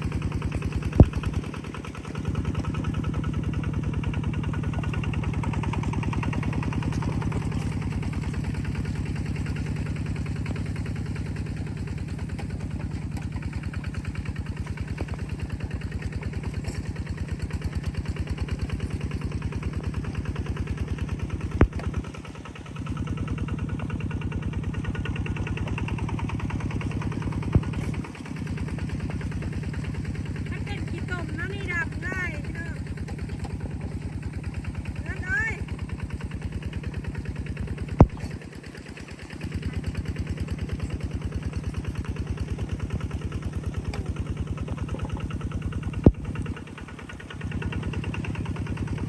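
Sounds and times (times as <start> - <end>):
engine running: 0.0 - 49.0.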